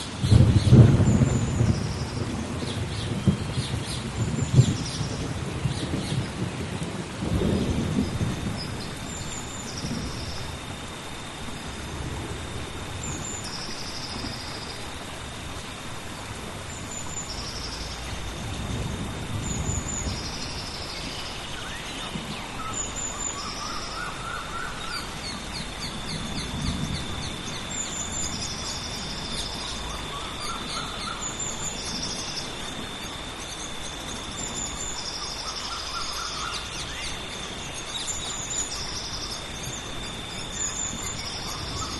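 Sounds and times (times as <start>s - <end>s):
high insect drone: 0.0s - 41.9s
rain hissing: 0.0s - 41.9s
low thunder rumbles: 0.1s - 41.9s.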